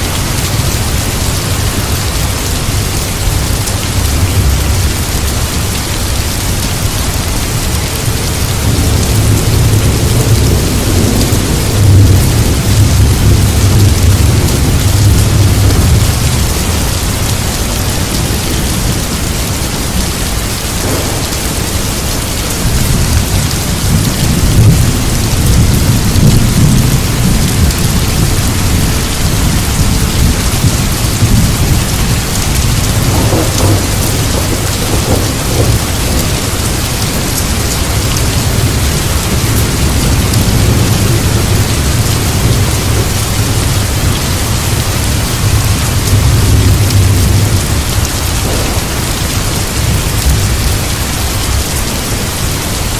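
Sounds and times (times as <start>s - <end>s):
heavy rain: 0.0s - 52.9s
thunder rumble: 0.0s - 52.9s.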